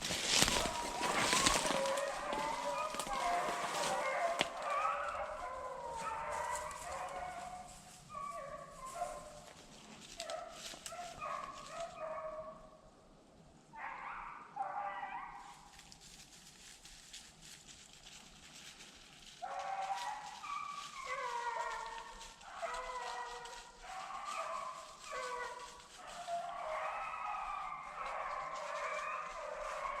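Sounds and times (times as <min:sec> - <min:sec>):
pack of hounds baying: 0:00.0 - 0:12.6, 0:13.8 - 0:15.7, 0:19.4 - 0:30.0.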